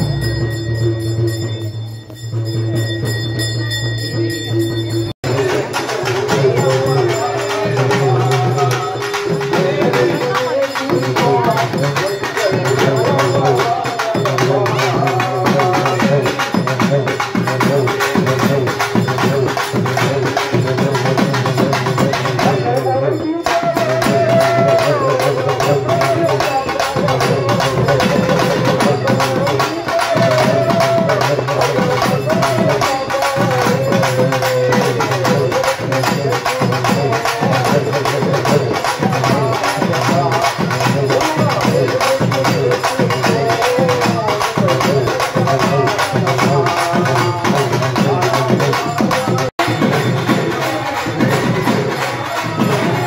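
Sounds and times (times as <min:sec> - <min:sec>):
fast continuous drumming: 0:00.0 - 0:53.0.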